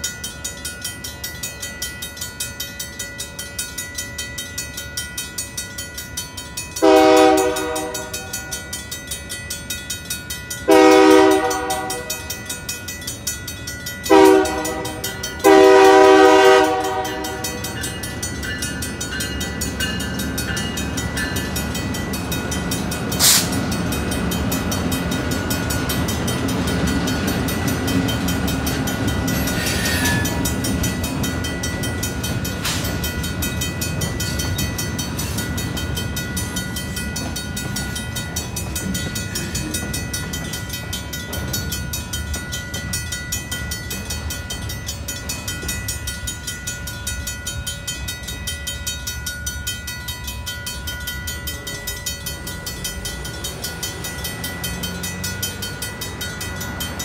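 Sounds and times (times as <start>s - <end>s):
crossing bells ringing: 0.0s - 57.0s
train rumbling over crossing: 0.0s - 57.0s.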